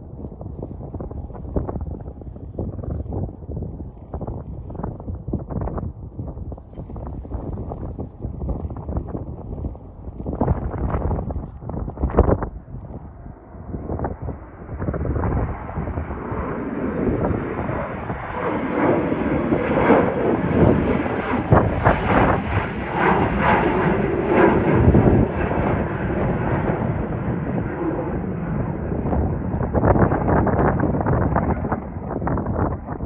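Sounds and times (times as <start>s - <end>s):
airliner engine roar: 0.0s - 33.0s.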